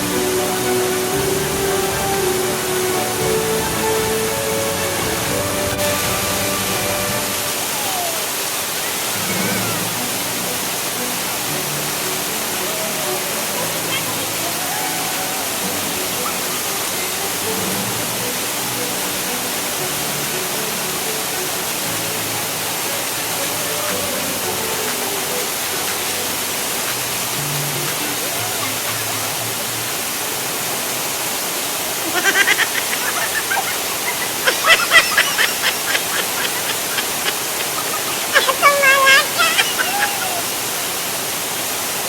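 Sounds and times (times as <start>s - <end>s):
faint music: 0.0s - 42.0s
waterfall rushing: 0.0s - 42.0s.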